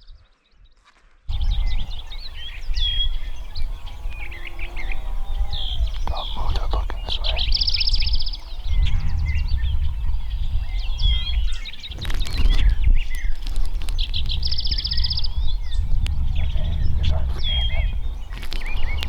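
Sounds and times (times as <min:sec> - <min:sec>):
rapid high bird trill: 0:01.3 - 0:19.0
small birds singing: 0:01.3 - 0:19.0
wind rumbling on microphone: 0:01.3 - 0:19.0.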